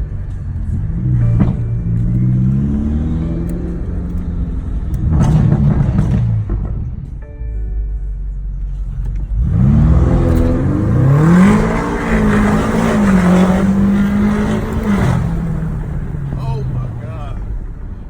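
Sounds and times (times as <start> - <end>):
car engine accelerating hard: 0.0 - 6.8, 8.8 - 18.0.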